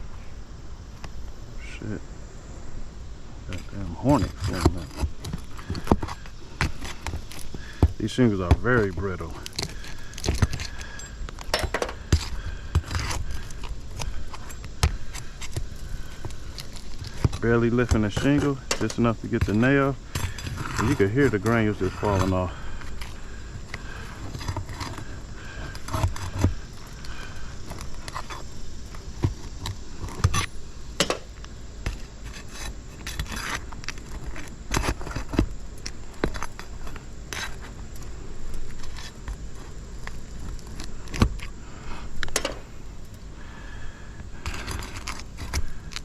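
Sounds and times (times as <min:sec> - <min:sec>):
roof shingles scraping and crackling: 0:03.4 - 0:42.8, 0:43.4 - 0:46.0.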